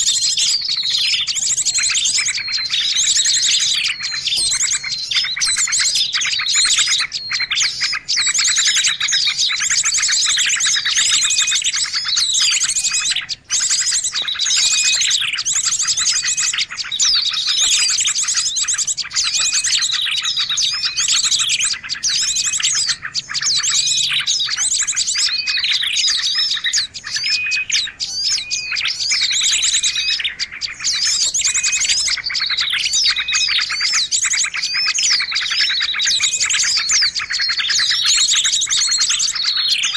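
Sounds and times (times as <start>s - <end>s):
chorus of songbirds chirping: 0.0s - 39.9s.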